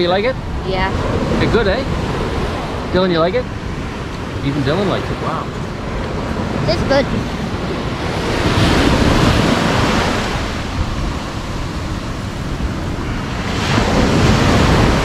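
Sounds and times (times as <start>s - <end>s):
sea surf washing up beach: 0.0s - 15.0s
wind buffeting microphone: 0.0s - 15.0s.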